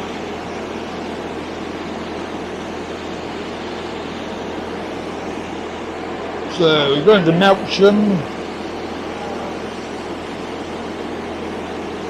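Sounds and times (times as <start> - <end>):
diesel train idling: 0.0 - 12.0.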